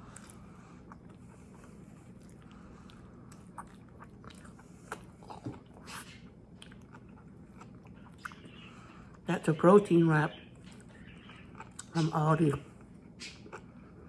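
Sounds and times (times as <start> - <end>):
person chewing food: 0.0 - 9.3, 10.5 - 12.0, 12.7 - 14.0.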